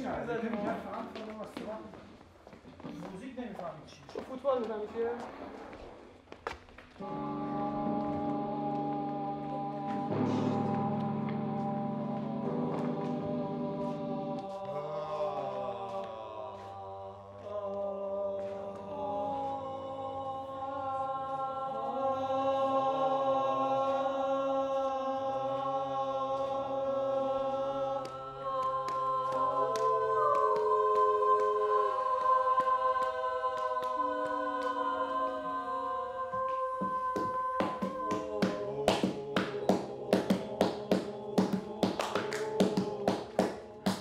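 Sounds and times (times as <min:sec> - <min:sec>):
choir singing unaccompanied: 0:07.0 - 0:44.0.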